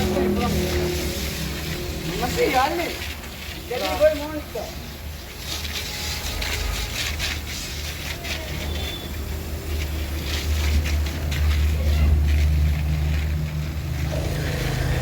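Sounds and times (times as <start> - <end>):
pressure washer humming: 0.0 - 15.0
water spray hissing: 0.0 - 15.0.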